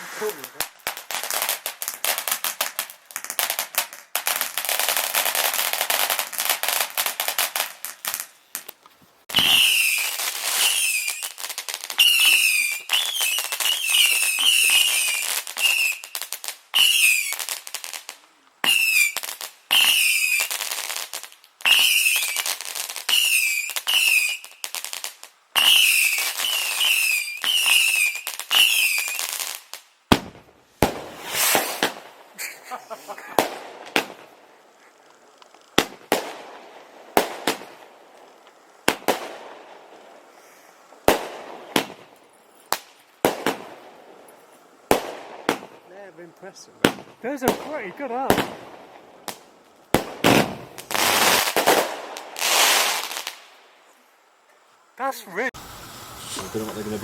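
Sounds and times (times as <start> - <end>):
fireworks whistling: 0.0 - 53.7, 55.0 - 57.0
fireworks crackling: 0.0 - 54.1, 55.0 - 57.0.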